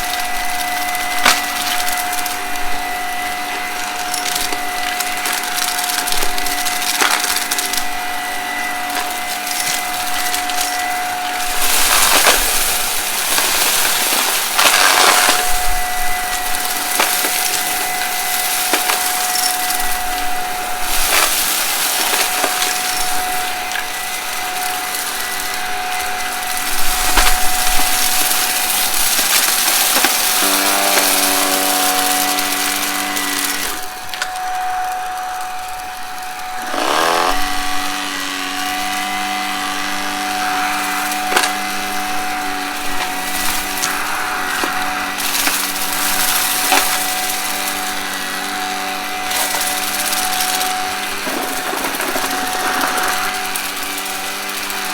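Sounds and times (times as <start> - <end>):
debris crackling in vacuum: 0.0 - 54.9
vacuum cleaner motor whine: 0.0 - 54.9.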